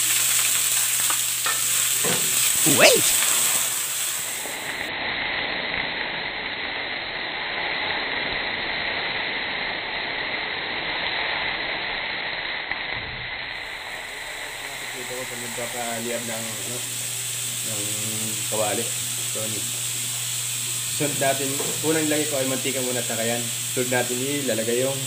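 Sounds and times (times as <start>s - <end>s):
meat sizzling in frying pan: 0.0s - 25.0s.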